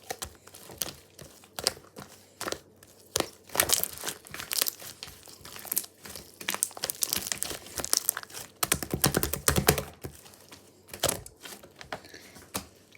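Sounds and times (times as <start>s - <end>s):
crinkling and rustling: 0.0s - 12.9s.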